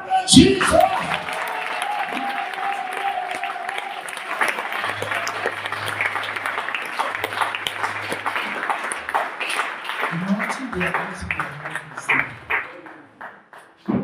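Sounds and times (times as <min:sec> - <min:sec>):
congregation clapping: 0:00.3 - 0:13.9.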